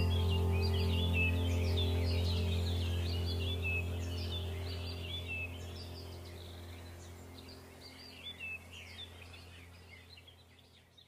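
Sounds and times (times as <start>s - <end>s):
low steady drone: 0.0s - 10.9s
small birds chirping: 0.0s - 11.0s.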